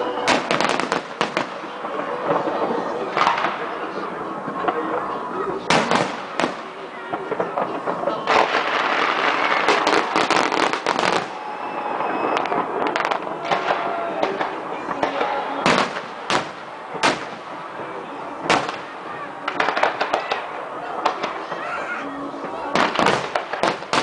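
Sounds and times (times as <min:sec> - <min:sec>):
fireworks loud bangs: 0:00.0 - 0:04.0, 0:05.6 - 0:21.8, 0:22.4 - 0:24.0
fireworks crackling: 0:00.0 - 0:24.0.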